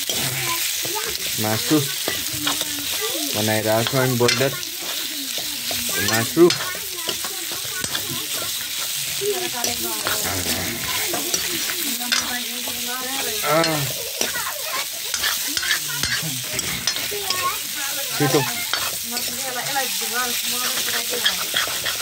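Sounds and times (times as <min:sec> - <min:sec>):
chicken sizzling in oil: 0:00.0 - 0:22.0
metal spoon scraping wok: 0:00.0 - 0:22.0.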